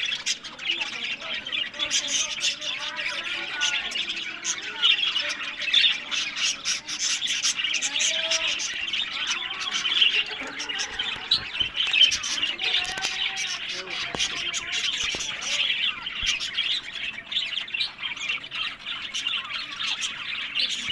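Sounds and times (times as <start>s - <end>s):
budgerigars chattering: 0.0s - 20.9s.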